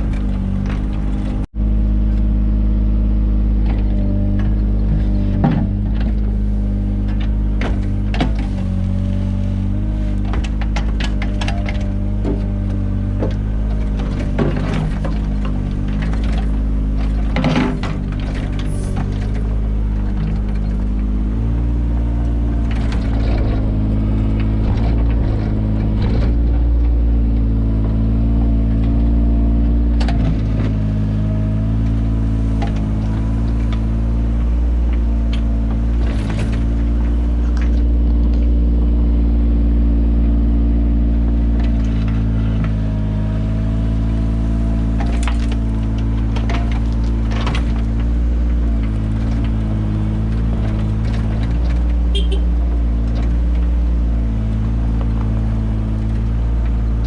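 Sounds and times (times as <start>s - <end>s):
knocks and scrapes: 0.0s - 1.5s, 3.6s - 39.4s, 40.8s - 57.0s
excavator engine under load: 0.0s - 57.0s.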